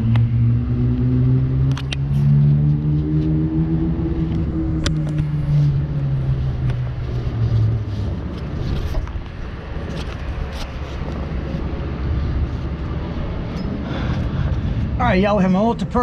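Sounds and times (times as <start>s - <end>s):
engine hum dropping in pitch: 0.0s - 16.0s
low rumble: 0.0s - 16.0s.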